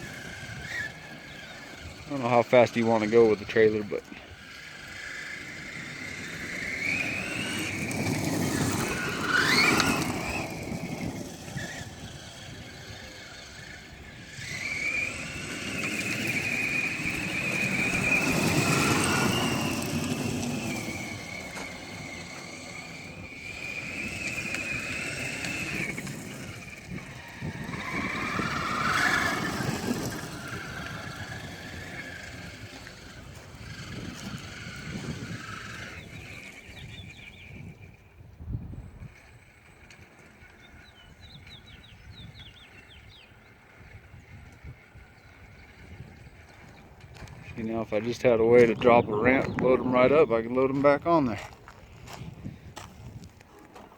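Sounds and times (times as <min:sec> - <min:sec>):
toy truck motor whine: 0:00.0 - 0:47.5
tyres on ground: 0:00.0 - 0:53.9.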